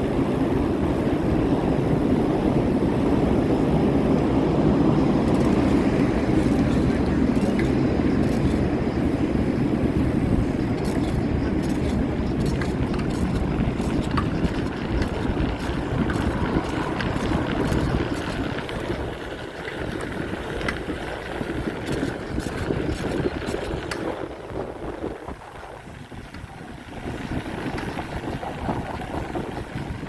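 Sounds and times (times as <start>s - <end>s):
wind and road noise rumble: 0.0s - 30.0s.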